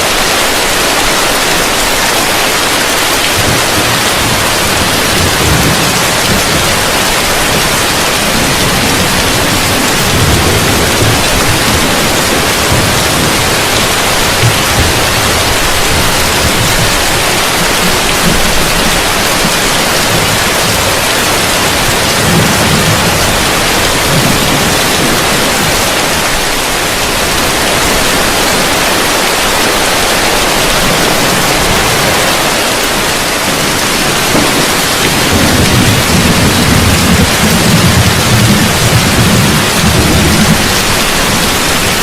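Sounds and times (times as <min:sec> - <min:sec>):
heavy rain on a roof: 0:00.0 - 0:42.0
low thunder rumbles: 0:02.0 - 0:42.0.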